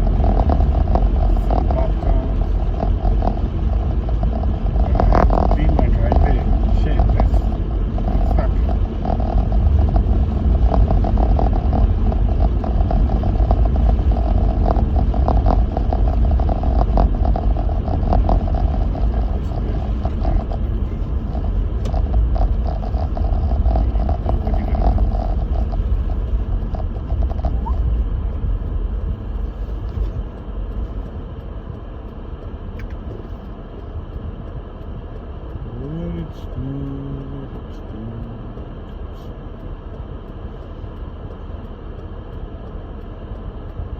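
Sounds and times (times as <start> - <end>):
rising tone into pitched hum: 0.0 - 43.9
vehicle rumbling through snow: 0.0 - 43.9.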